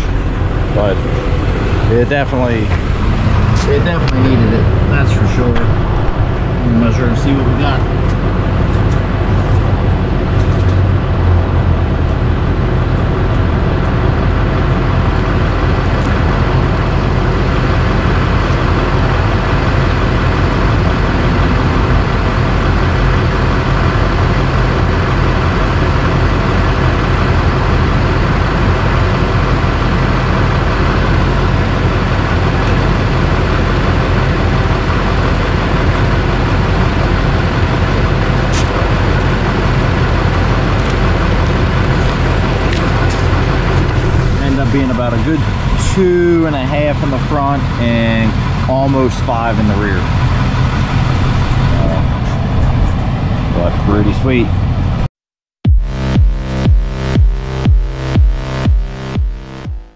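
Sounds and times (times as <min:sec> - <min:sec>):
diesel truck engine idling: 0:00.0 - 0:55.1.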